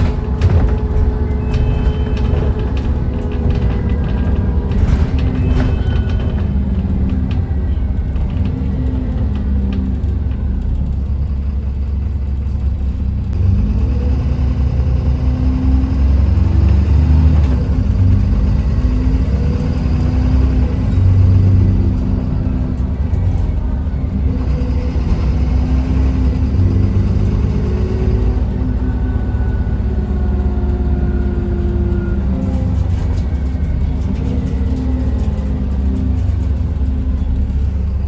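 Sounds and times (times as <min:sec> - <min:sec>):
bus engine rumbling: 0:00.0 - 0:38.0.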